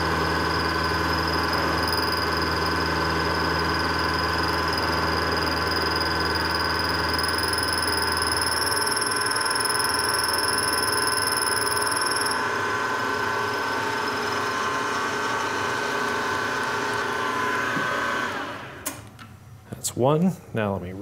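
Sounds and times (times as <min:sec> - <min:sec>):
milling machine spindle running: 0:00.0 - 0:18.7
high whine of metal cutting: 0:00.0 - 0:18.8.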